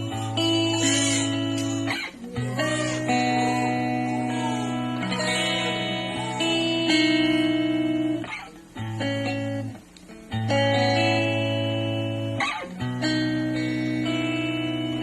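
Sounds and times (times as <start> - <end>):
electric guitar chords ringing: 0.0 - 15.0.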